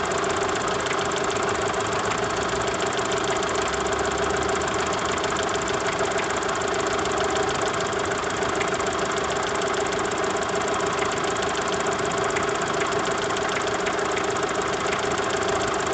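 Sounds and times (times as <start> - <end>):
car engine idling with knock: 0.0 - 15.9.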